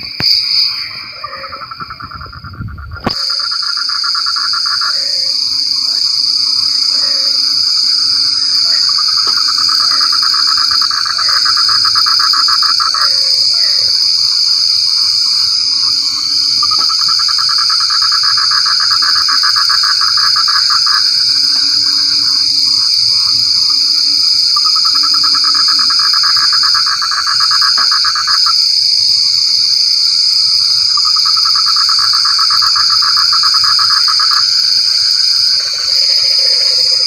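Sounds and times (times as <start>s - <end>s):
frogs trilling and croaking: 0.0s - 37.0s.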